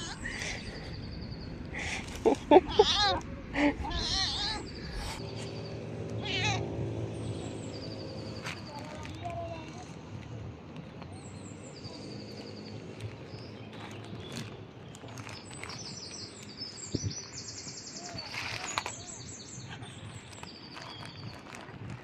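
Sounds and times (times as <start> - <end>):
low outdoor rumble: 0.0 - 22.0
small birds chirping: 0.0 - 22.0.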